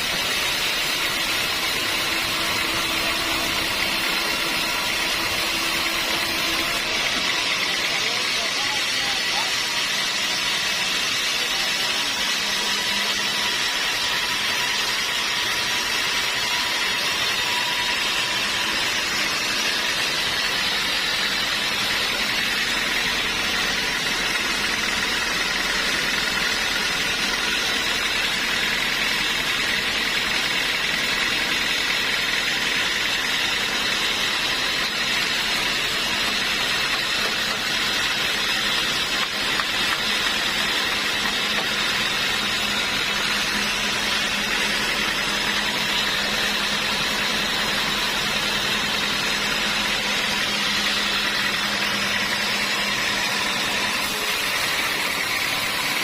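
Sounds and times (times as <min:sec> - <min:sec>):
sawmill sawing a log: 0:00.0 - 0:56.0.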